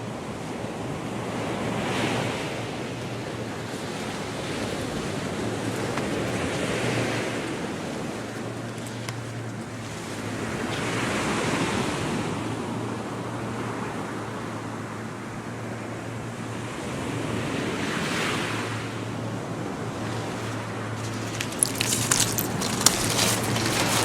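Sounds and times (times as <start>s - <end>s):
waves breaking on sandy beach: 0.0s - 24.0s.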